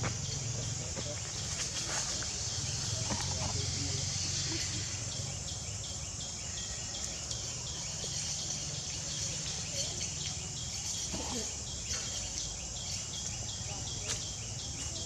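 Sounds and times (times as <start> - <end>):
insect chirping: 0.0 - 15.0
insects buzzing: 0.0 - 15.0.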